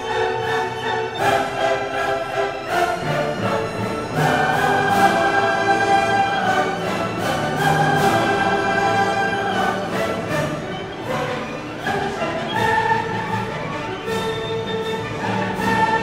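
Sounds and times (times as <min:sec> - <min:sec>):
orchestral music with held chords: 0:00.0 - 0:16.0.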